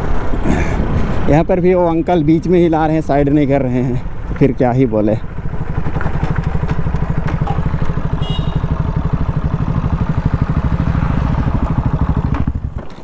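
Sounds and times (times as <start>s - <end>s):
motorcycle engine running steadily: 2.2s - 13.0s.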